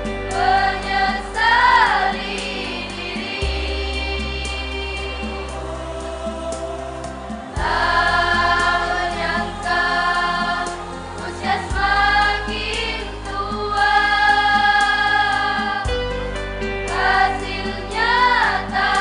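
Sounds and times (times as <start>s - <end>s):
female choir singing: 0.0s - 16.0s, 16.7s - 19.0s.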